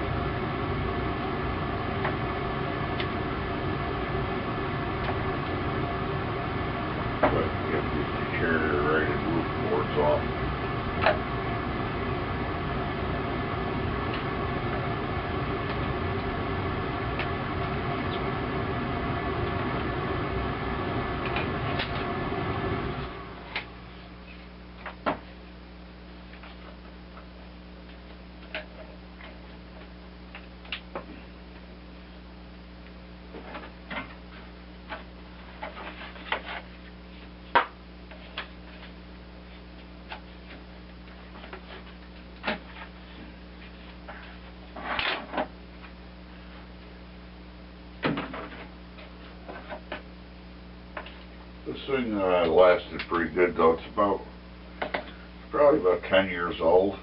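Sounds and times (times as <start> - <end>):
steady noisy hum: 0.0 - 57.0.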